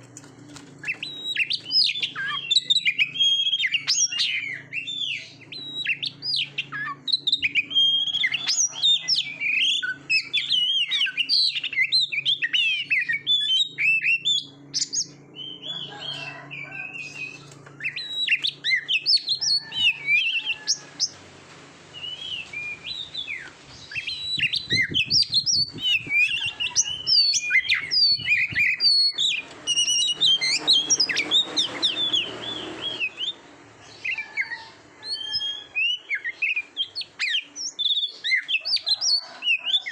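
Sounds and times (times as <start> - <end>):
bird singing: 0.8 - 21.2, 22.0 - 39.9.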